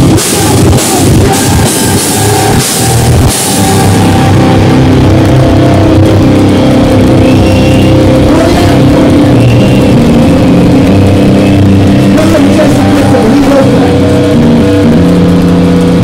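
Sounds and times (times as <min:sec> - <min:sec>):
distorted electric guitar: 0:00.0 - 0:16.0
heavy metal band playing live: 0:00.0 - 0:16.0.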